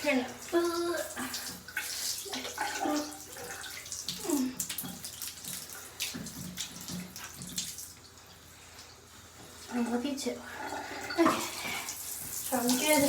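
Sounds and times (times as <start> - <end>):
shower water splashing into bathtub: 0.0 - 10.0, 10.6 - 13.0.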